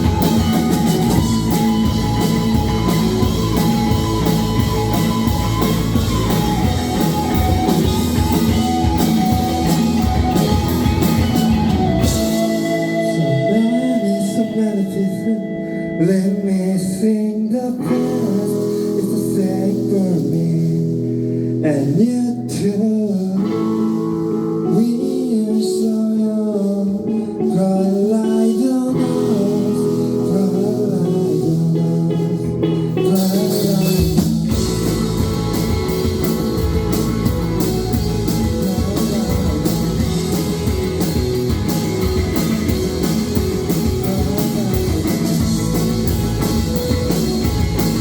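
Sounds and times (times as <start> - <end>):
person singing: 0.0 - 21.0, 21.6 - 48.0
drums: 0.0 - 48.0
guitar: 0.0 - 48.0
live rock band playing: 0.0 - 48.0.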